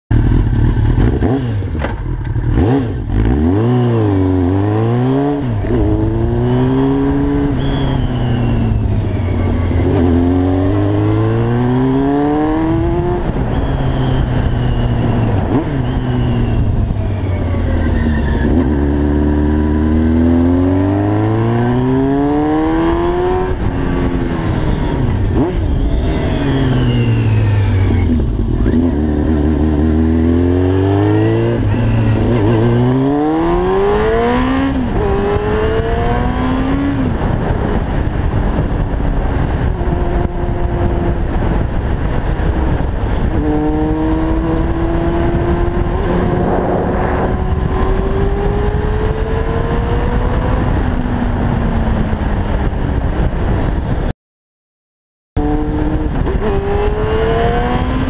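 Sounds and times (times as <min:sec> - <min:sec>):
motorcycle engine revving: 0:00.1 - 0:54.1, 0:55.4 - 0:58.0
wind noise: 0:00.1 - 0:54.1, 0:55.4 - 0:58.0.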